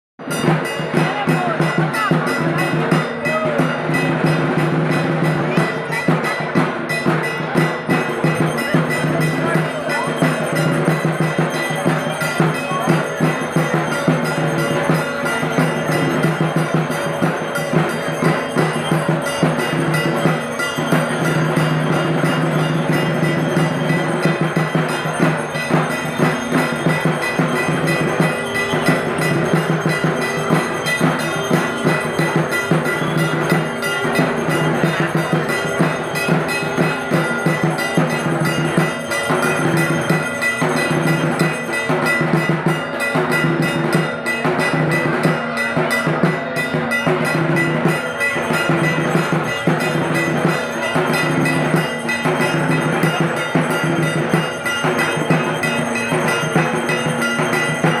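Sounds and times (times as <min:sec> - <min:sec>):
drums beating: 0:00.2 - 0:58.0
metal bells ringing: 0:00.2 - 0:58.0.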